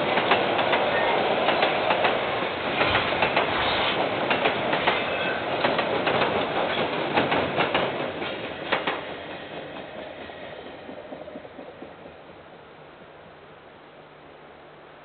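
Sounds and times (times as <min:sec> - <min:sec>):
train wheels clicking over joints: 0:00.0 - 0:13.4.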